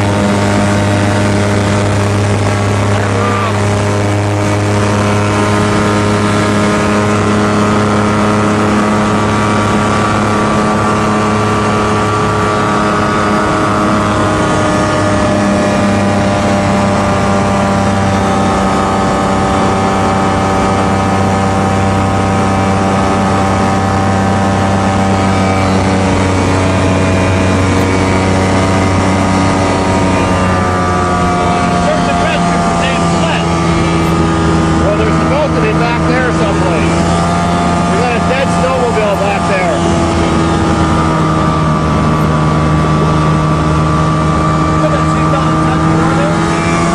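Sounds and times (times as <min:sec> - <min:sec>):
light aircraft engine and propeller: 0:00.0 - 0:46.9.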